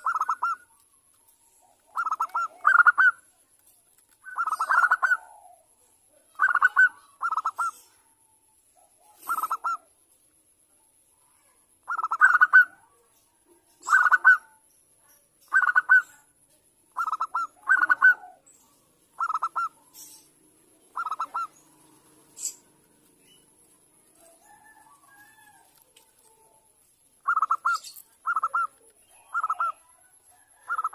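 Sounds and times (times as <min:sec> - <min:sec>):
doves cooing: 0:00.0 - 0:03.3, 0:04.2 - 0:08.1, 0:09.0 - 0:10.0, 0:11.8 - 0:14.6, 0:15.5 - 0:16.2, 0:16.9 - 0:30.9.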